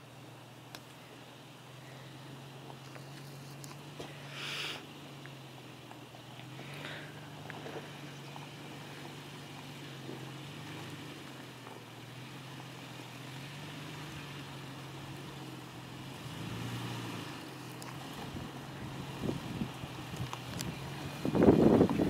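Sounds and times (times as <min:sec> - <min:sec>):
truck engine at low revs: 0:00.0 - 0:22.0.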